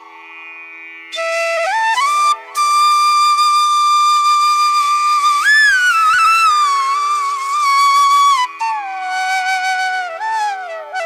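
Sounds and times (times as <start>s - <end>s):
flute bending in pitch: 1.1s - 11.0s.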